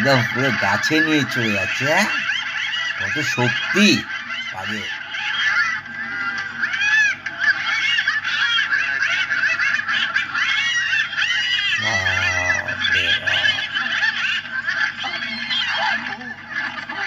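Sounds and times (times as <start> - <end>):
many birds calling: 0.0 - 17.0.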